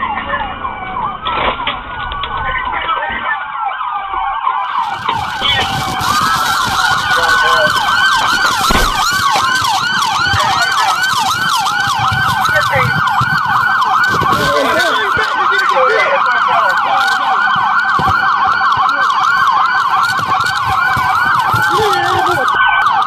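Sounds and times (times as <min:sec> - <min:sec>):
police sirens yelping and wailing: 0:00.0 - 0:23.0.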